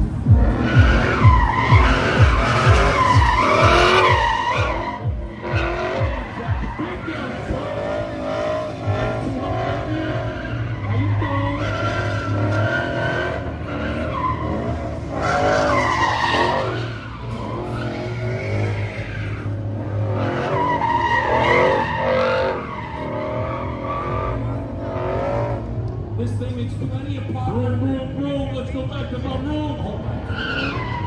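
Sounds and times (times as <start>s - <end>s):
car engine revving: 0.0s - 31.0s
tyres skidding: 0.0s - 31.0s.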